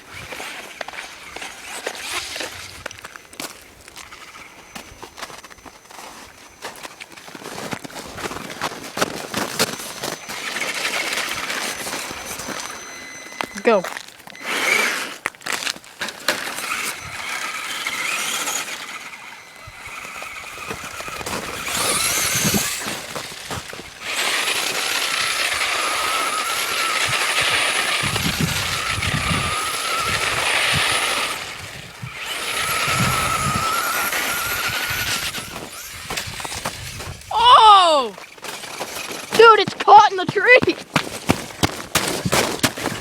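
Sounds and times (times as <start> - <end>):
toy truck electric motor whining: 0.0 - 43.0.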